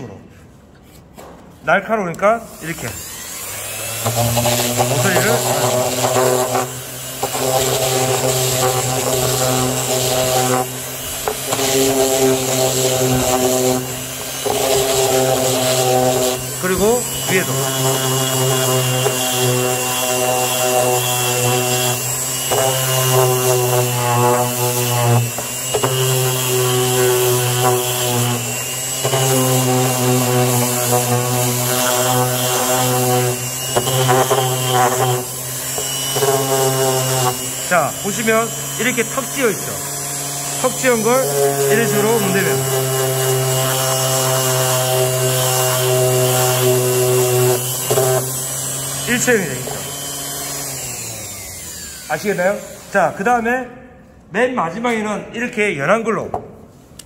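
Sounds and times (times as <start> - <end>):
orbital sander sanding wood: 0.8 - 53.7.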